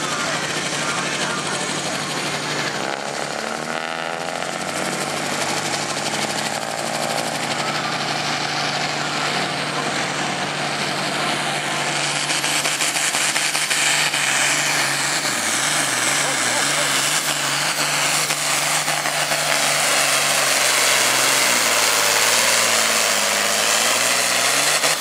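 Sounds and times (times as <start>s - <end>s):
tractor engine under heavy load: 0.0s - 25.0s.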